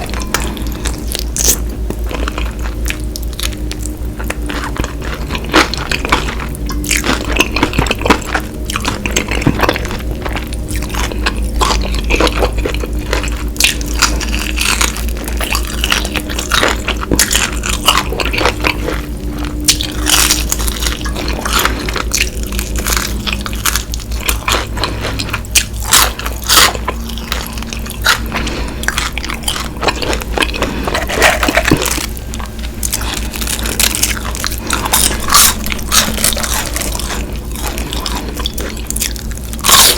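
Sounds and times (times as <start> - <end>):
crunching and chewing food: 0.0 - 39.9
low hum: 0.0 - 39.9.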